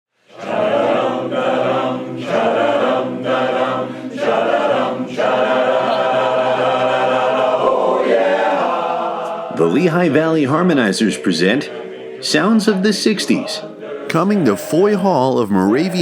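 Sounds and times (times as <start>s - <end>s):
chorus singing in close harmony: 0.2s - 16.0s.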